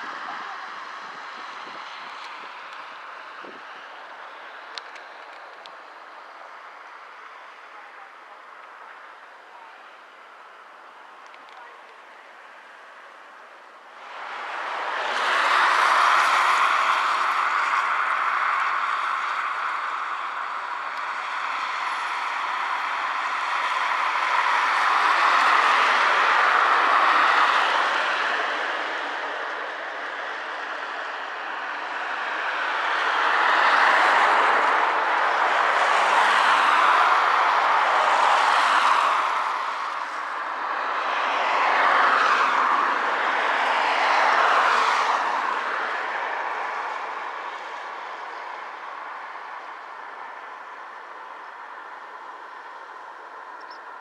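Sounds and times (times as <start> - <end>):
cars passing on wet road: 0.0 - 54.0.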